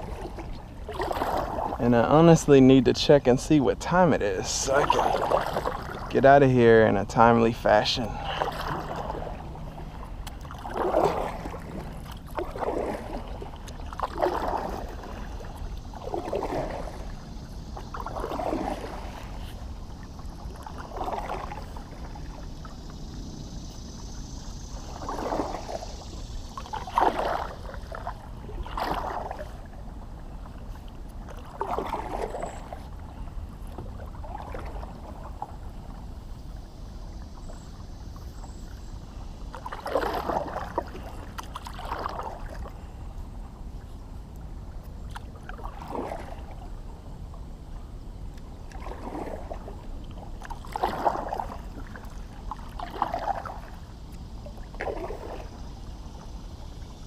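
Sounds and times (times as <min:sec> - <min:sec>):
kayak paddle splashing water: 0:00.0 - 0:57.0.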